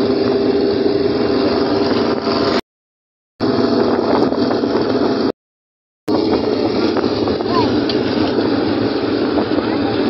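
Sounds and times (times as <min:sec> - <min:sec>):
road noise: 0:00.0 - 0:02.6, 0:03.4 - 0:05.4, 0:06.1 - 0:10.0
vehicle engine hum: 0:00.0 - 0:02.6, 0:03.4 - 0:05.4, 0:06.1 - 0:10.0.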